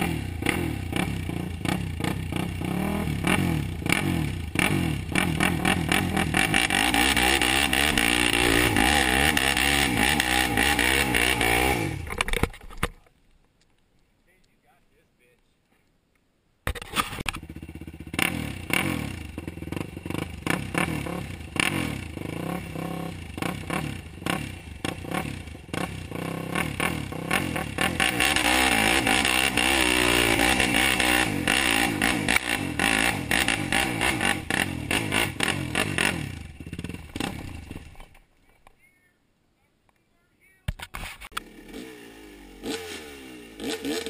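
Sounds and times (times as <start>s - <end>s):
quad bike engine revving: 0.0s - 12.5s, 17.0s - 38.2s, 41.2s - 44.0s.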